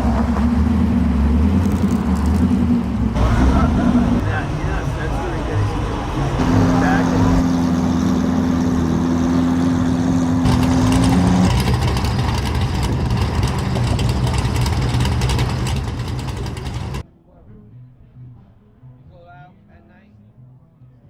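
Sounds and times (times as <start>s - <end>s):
car engine low rumble: 0.0s - 17.0s
humming drone: 0.0s - 17.0s.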